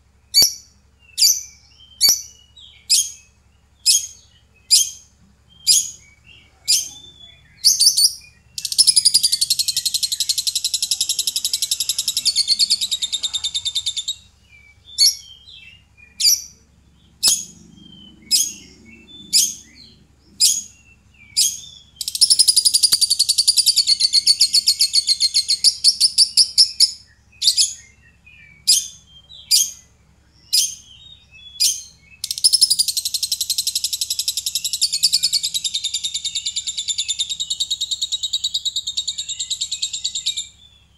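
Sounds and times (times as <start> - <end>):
bird chirping: 0.0 - 40.9
bird chattering trill: 0.3 - 29.9, 30.5 - 40.7.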